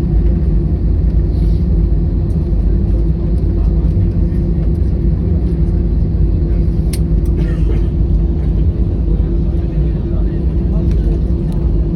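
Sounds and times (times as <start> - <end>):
constant hum: 0.0 - 11.9
jet airliner cabin rumble: 0.0 - 11.9.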